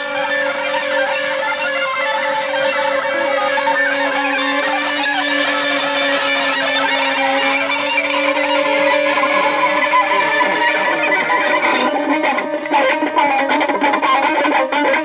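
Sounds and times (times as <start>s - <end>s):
steady drone tone: 0.0s - 15.0s
guitar played with objects: 2.6s - 15.0s.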